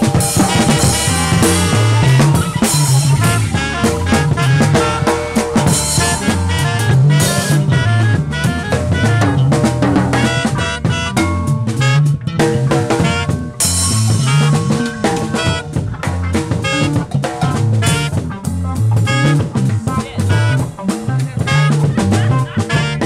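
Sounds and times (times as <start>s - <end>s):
bass line: 0.0s - 23.0s
busy drumming: 0.0s - 23.0s
guitar: 0.0s - 23.0s
saxophone: 0.0s - 23.0s.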